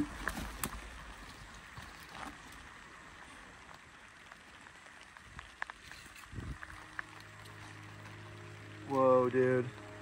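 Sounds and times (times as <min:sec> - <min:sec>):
soft rustle: 0:00.0 - 0:08.2
faint outdoor hiss: 0:00.0 - 0:10.0.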